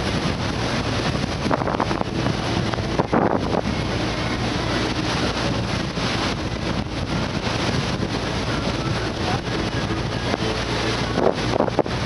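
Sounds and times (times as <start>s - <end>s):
ship engines humming: 0.0s - 12.0s
wind buffeting microphone: 0.0s - 12.0s.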